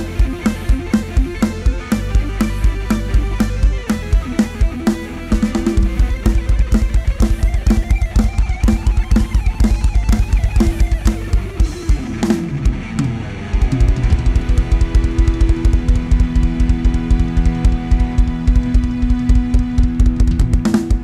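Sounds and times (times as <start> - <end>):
bass drum beat: 0.0 - 21.0
live rock band playing: 0.0 - 21.0.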